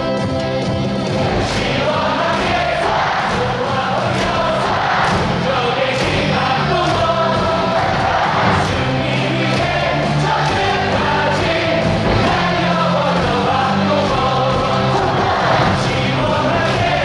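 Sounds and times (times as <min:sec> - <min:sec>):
amplified stadium music: 0:00.0 - 0:17.0
crowd singing in unison: 0:01.0 - 0:17.0.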